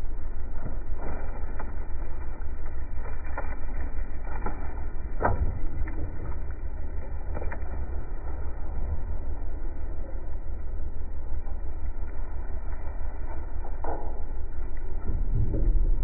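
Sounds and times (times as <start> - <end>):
soil and rocks pouring down: 0.0 - 16.0.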